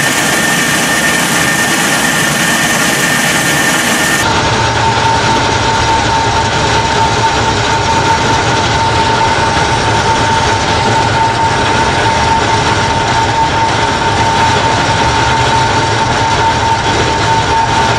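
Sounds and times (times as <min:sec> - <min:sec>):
rice huller running: 0:00.0 - 0:17.9.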